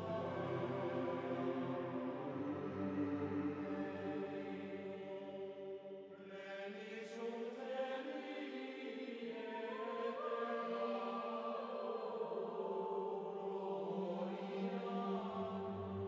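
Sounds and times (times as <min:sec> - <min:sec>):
chant-like choral voices: 0:00.0 - 0:16.0.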